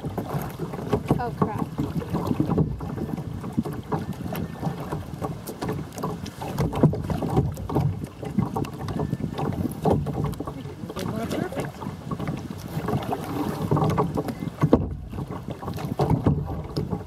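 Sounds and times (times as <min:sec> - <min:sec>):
knocks through hull: 0:00.0 - 0:17.0
water splashing against kayak: 0:00.0 - 0:17.0
wind buffeting microphone: 0:00.0 - 0:17.0.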